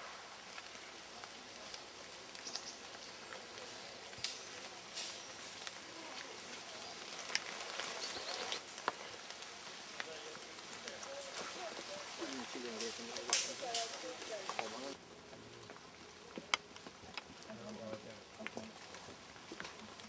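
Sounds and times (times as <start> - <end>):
steady hiss: 0.0 - 20.0
dry twigs and leaves snapping: 0.4 - 20.0.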